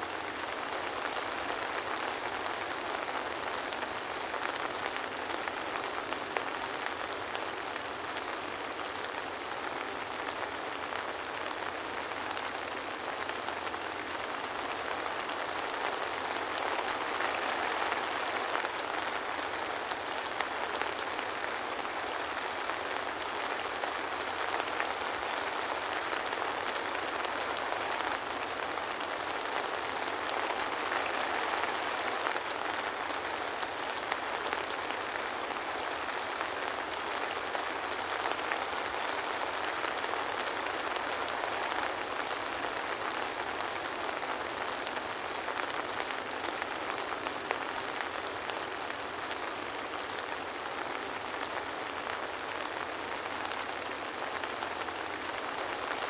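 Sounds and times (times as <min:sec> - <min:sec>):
soft rain falling: 0:00.0 - 0:56.0.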